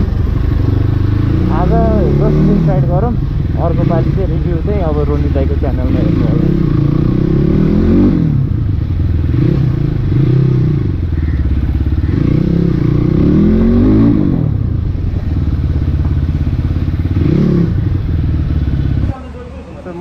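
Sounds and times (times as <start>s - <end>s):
dirt bike engine revving: 0.0s - 19.3s.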